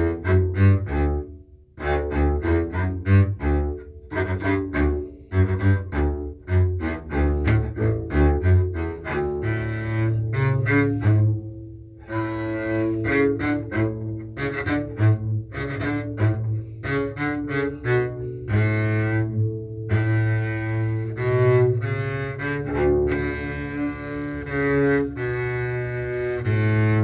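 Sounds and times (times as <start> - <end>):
bowed double bass: 0.0 - 27.0.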